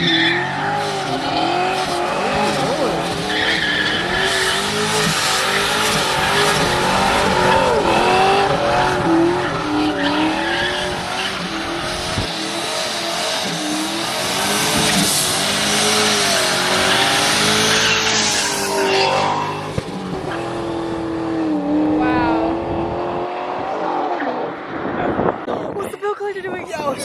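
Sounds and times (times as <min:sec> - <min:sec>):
tires squealing: 0:00.0 - 0:22.8
car engine revving hard: 0:00.0 - 0:25.5.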